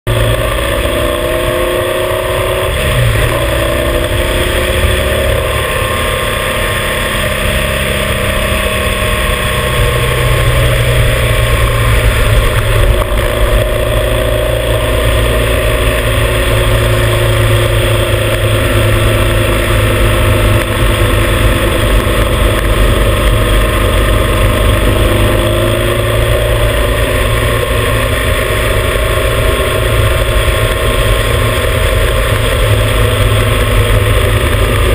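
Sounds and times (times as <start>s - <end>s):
motorcycle engine running: 0.1s - 34.9s
wind and tyre noise: 0.1s - 34.9s.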